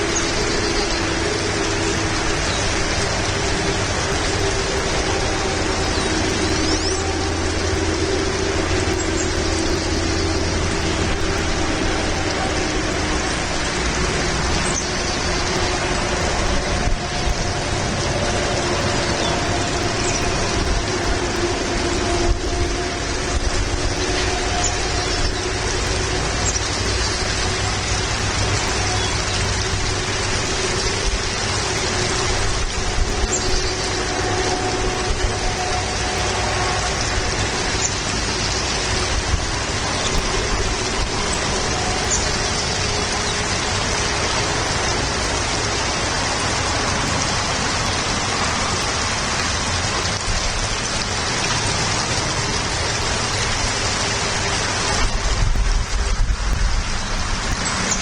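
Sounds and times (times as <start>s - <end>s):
low rumble: 0.0s - 58.0s
rain: 0.0s - 58.0s.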